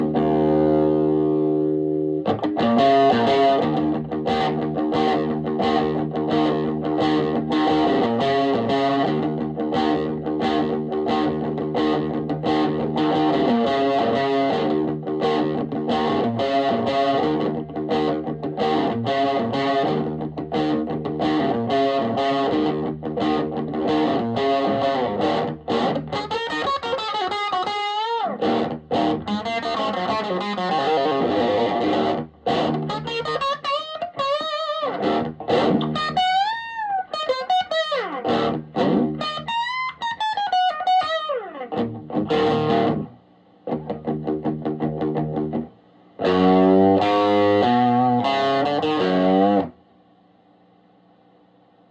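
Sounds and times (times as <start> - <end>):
electric guitar playing: 0.0 - 49.8.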